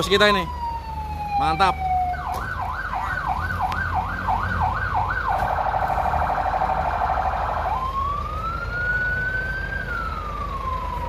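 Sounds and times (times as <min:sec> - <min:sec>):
electronic vehicle siren: 0:00.0 - 0:11.0.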